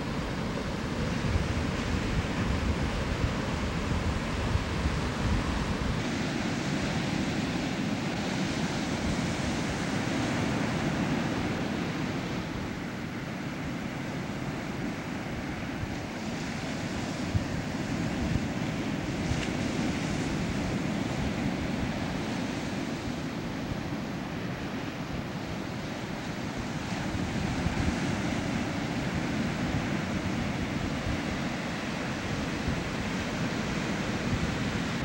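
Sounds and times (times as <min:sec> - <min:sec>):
ocean surf breaking: 0:00.0 - 0:35.0
wind on microphone: 0:00.0 - 0:35.0.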